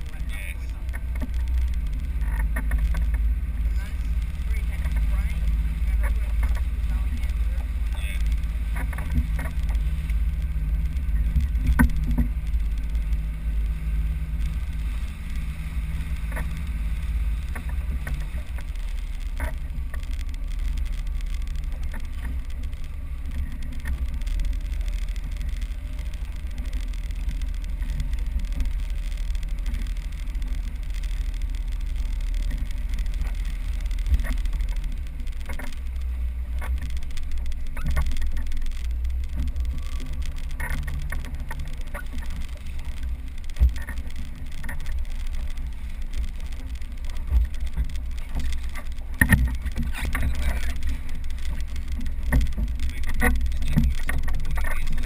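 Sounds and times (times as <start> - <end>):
boat motor rumble: 0.0 - 55.0
water splashing against hull: 0.0 - 55.0
wind on microphone: 0.0 - 55.0.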